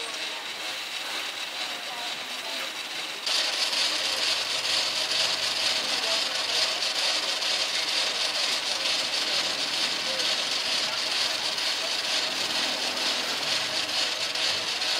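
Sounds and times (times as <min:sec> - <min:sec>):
grill hissing: 0:00.0 - 0:14.9.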